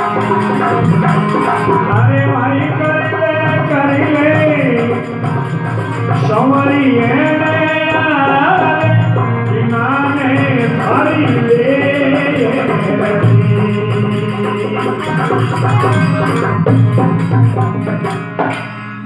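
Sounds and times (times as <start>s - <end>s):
person singing: 0.0s - 18.2s
devotional folk music: 0.0s - 19.0s
jingling rattling percussion: 0.0s - 19.0s.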